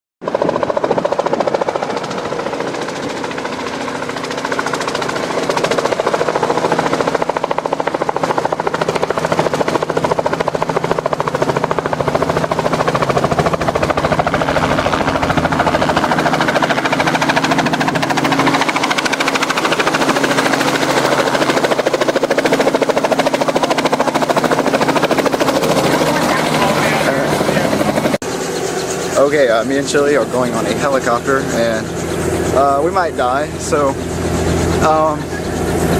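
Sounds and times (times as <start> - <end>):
helicopter engine drone: 0.2 - 35.9
helicopter rotor blades beating: 0.2 - 35.9.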